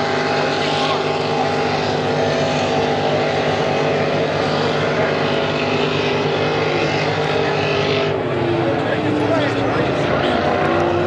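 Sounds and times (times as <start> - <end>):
propeller plane flying low: 0.0 - 11.0
race boat engines droning: 0.0 - 11.0.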